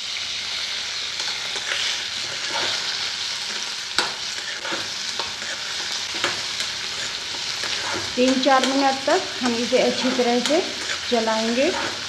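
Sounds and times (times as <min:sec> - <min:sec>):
vegetables sizzling in hot oil: 0:00.0 - 0:12.0
metal spatula scraping pan: 0:01.2 - 0:12.0.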